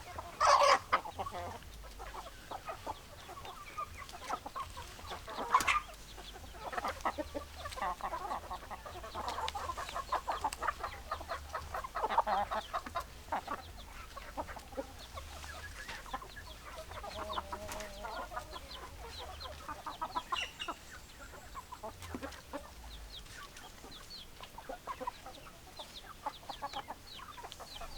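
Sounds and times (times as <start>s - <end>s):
hens clucking: 0.0s - 27.9s.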